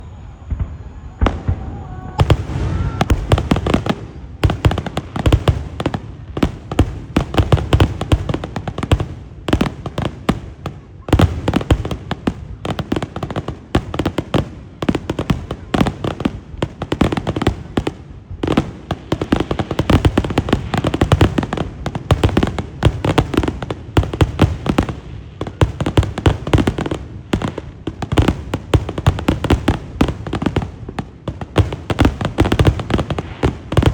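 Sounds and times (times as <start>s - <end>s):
fireworks booming and crackling: 0.0s - 33.9s.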